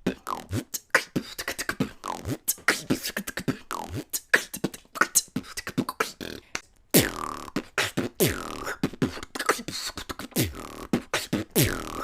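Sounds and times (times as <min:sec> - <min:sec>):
beatboxing with lip rolls: 0:00.0 - 0:12.0.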